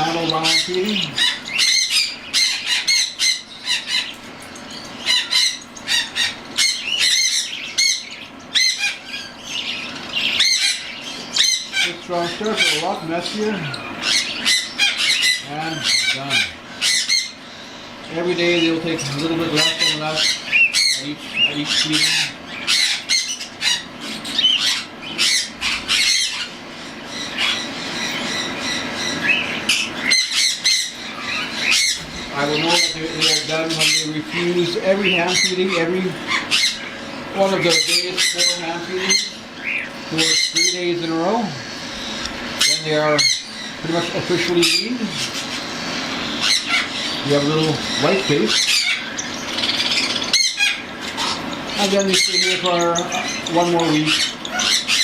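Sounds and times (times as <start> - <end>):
cockatiels screeching: 0.0 - 55.0.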